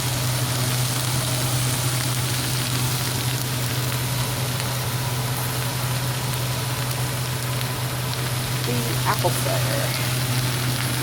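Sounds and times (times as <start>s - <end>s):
cabbage sizzling in a frying pan: 0.0s - 11.0s.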